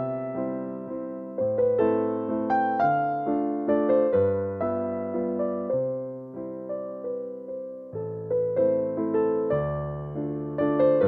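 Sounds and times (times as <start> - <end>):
slow gentle solo piano: 0.0 - 11.0.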